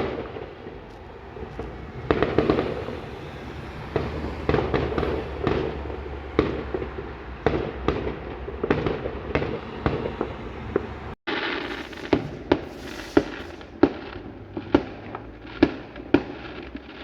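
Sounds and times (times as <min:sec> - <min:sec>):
distant fireworks bangs: 0:00.0 - 0:17.0
rumble of echoing explosions: 0:00.0 - 0:17.0.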